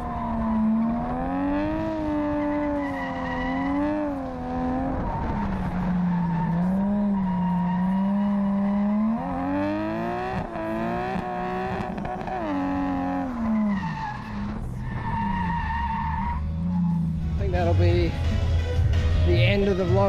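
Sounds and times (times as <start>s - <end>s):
car engine revving high: 0.0s - 17.2s.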